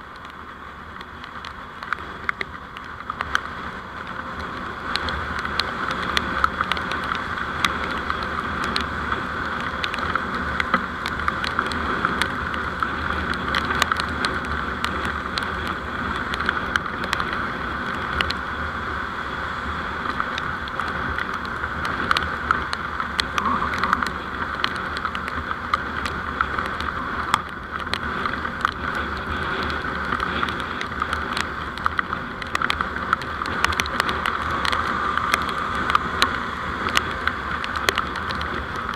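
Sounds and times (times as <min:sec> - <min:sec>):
vehicle road and engine noise: 0:00.0 - 0:38.9.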